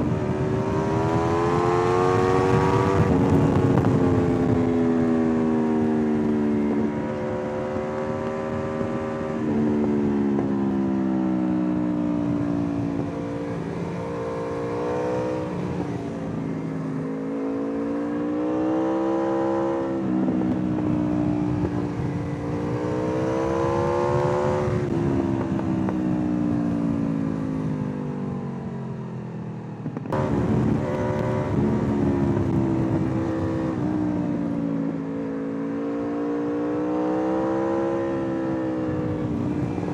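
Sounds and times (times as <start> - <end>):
motorcycle engine revving: 0.0 - 11.0, 11.8 - 27.6, 29.9 - 39.9
wind noise on microphone: 0.0 - 11.1, 11.8 - 16.8, 18.3 - 27.2, 29.8 - 35.0, 35.7 - 39.9.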